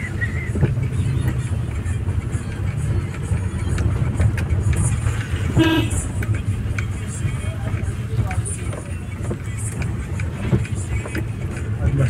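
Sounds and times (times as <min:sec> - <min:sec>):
car engine and road noise: 0:00.0 - 0:12.0
light ticks: 0:00.4 - 0:05.3, 0:06.2 - 0:11.8.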